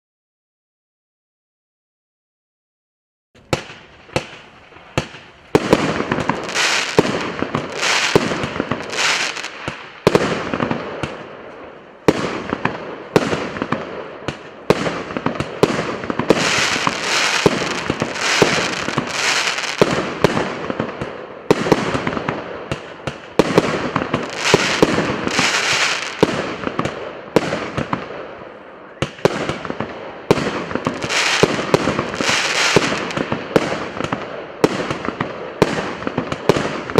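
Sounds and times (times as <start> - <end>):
fireworks battery firing: 3.4 - 11.3, 12.1 - 28.1, 29.0 - 36.9.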